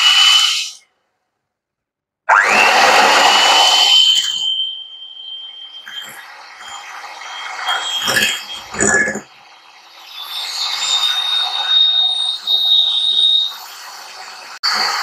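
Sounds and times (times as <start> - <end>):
electric hand mixer whining: 2.3 - 15.0.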